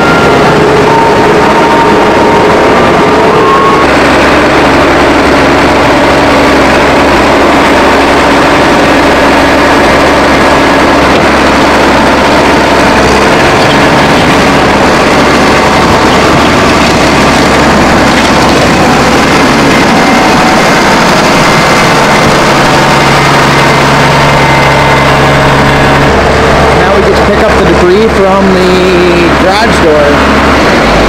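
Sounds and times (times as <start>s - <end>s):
loader bucket pushing snow: 0.0s - 31.0s
tractor diesel engine running: 0.0s - 31.0s.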